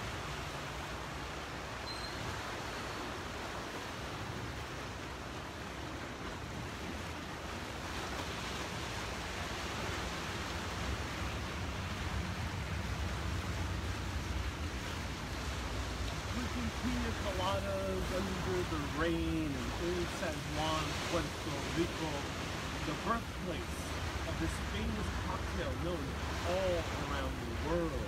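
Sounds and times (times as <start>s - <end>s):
wind and sea rushing: 0.0s - 28.0s.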